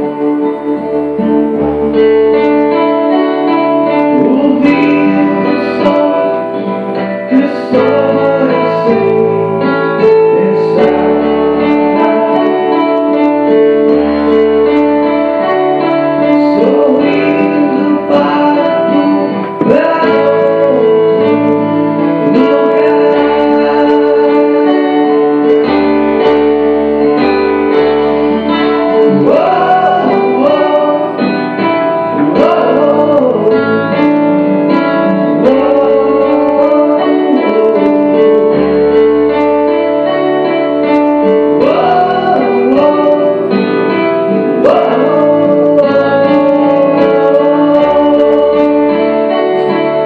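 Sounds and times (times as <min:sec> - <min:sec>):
guitar: 0:00.0 - 0:50.0
person singing: 0:00.0 - 0:50.0.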